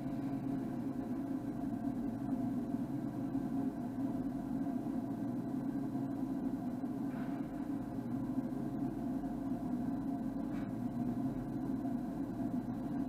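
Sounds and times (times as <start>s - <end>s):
lathe table drive humming: 0.0s - 13.0s.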